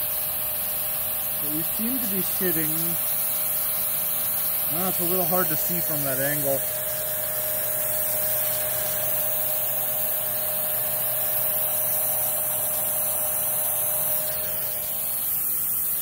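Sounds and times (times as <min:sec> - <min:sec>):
vacuum motor rushing and whining: 0:01.0 - 0:16.0.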